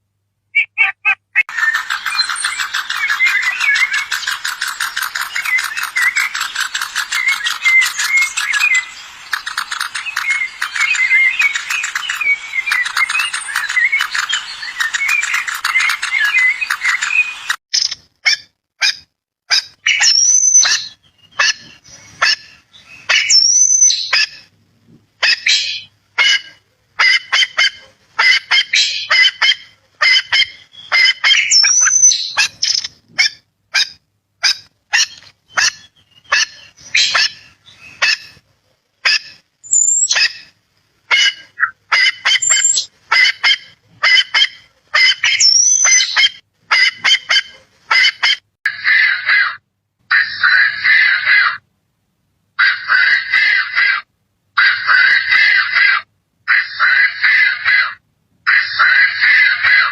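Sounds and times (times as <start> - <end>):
birds chirping and squawking: 0.6 - 38.4, 39.0 - 51.6, 52.6 - 59.9.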